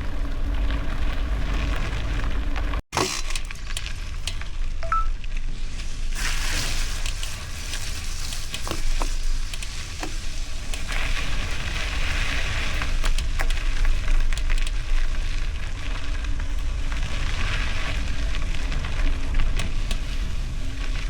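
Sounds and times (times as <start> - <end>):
bicycle tyres crunching gravel: 0.0 - 21.0.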